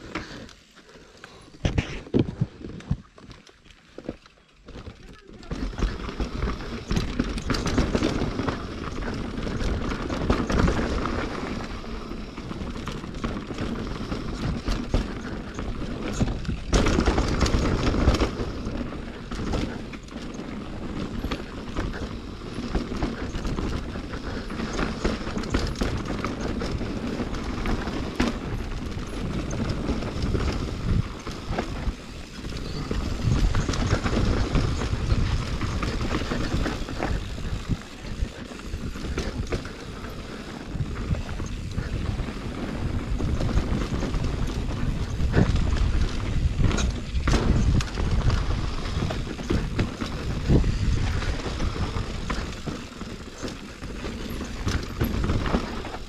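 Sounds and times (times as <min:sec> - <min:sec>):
bike rattling and knocking: 0:00.0 - 0:56.0
bike tyres rolling over dirt: 0:00.0 - 0:56.0.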